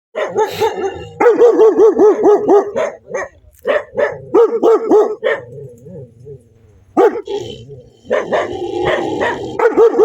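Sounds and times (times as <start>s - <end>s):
dog barking angrily: 0.2s - 5.6s, 7.0s - 10.0s.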